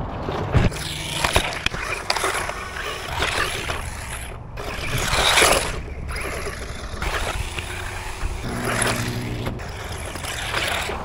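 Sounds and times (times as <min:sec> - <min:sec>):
rc truck driving over rough ground: 0:00.0 - 0:11.0.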